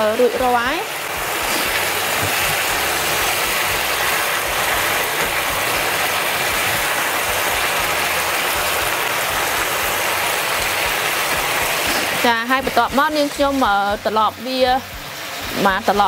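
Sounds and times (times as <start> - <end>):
sauce sizzling in a hot pan: 0.0 - 16.0.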